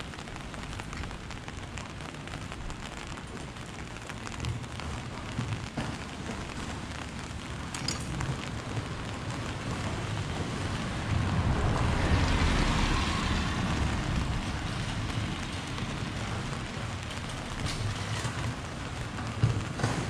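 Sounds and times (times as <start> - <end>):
rain on a street: 0.0 - 20.0
vehicle passing on wet road: 0.0 - 20.0.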